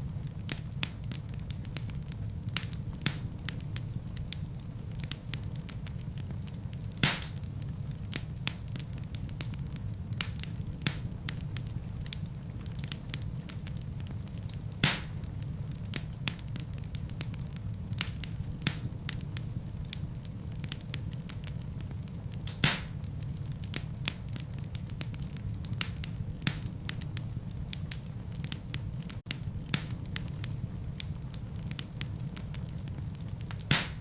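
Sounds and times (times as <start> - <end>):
fire crackling and popping: 0.0 - 34.0
fire flames rumbling: 0.0 - 34.0.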